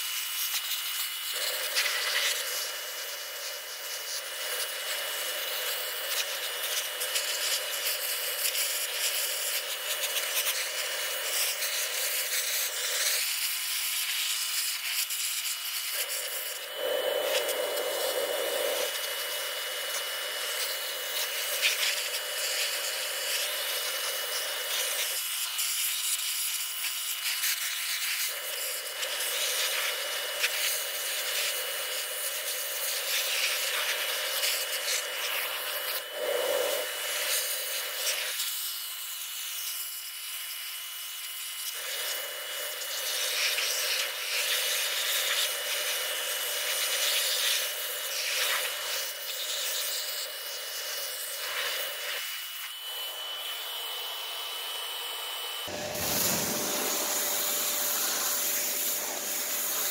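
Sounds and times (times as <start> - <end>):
pressure washer jet spraying metal: 0.0 - 38.5, 41.6 - 59.9.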